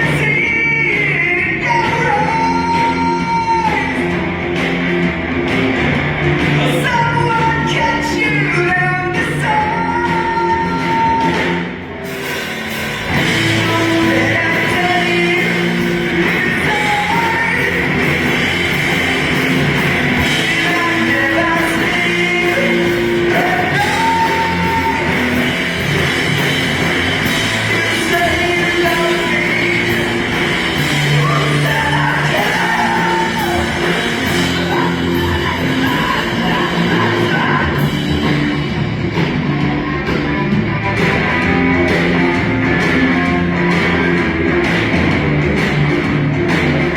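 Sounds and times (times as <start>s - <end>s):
rock music with singing: 0.0s - 46.9s.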